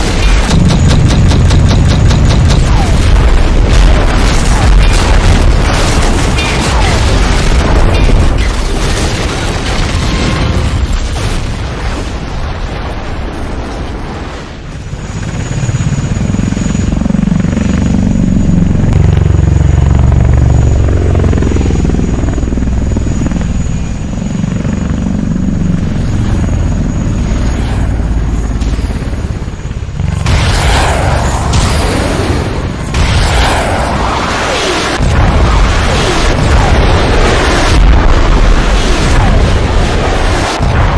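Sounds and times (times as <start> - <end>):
aircraft engine drone with whine: 0.0 - 40.9
loud rumbling noise: 0.0 - 40.9.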